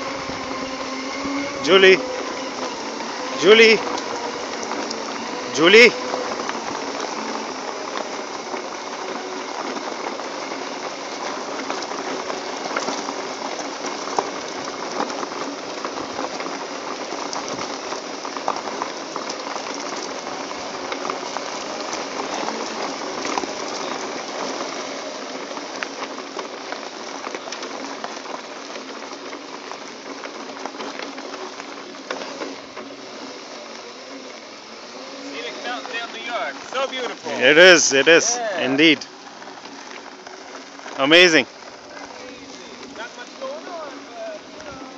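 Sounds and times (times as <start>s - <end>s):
tyres rolling over gravel: 0.0s - 44.9s.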